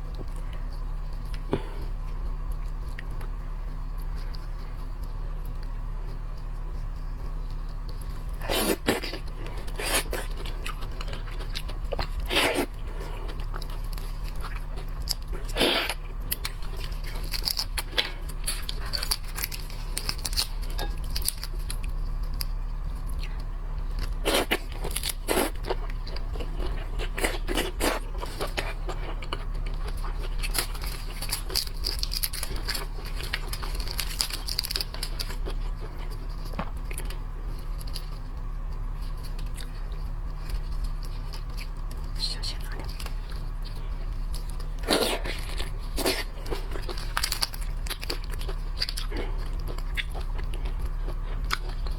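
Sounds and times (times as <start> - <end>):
close-up chewing: 0.0 - 51.9.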